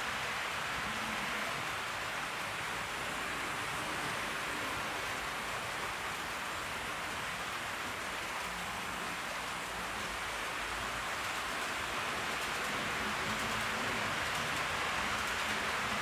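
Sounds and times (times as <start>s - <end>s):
model train wheels rolling: 0.0s - 16.0s.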